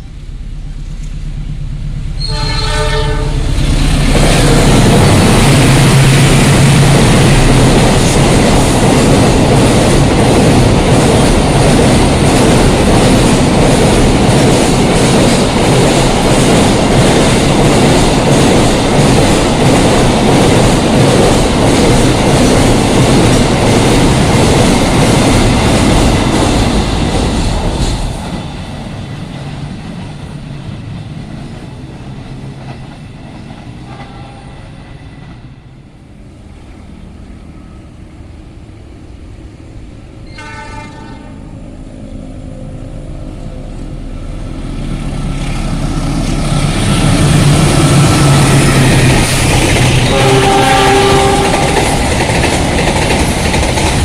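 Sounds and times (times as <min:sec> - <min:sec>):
train rushing past: 0:00.0 - 0:54.0.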